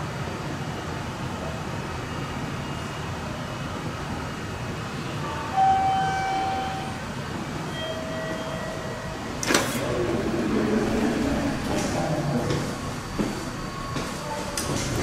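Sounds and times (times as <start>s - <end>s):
steady concourse hum: 0.0s - 15.0s.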